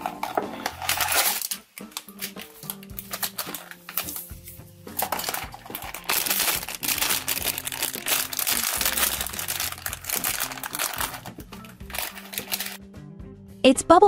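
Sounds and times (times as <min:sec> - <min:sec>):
foil bag crinkling and tearing: 0:00.0 - 0:04.3, 0:05.0 - 0:12.8.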